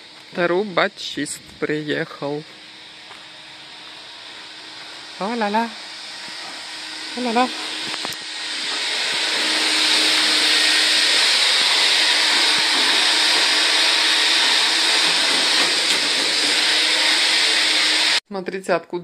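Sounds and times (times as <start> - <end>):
vacuum running: 0.0 - 18.2.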